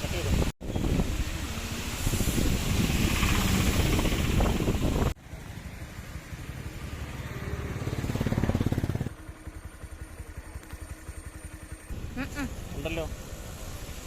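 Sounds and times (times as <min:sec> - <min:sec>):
vehicle engine pulsing: 0:02.5 - 0:14.0.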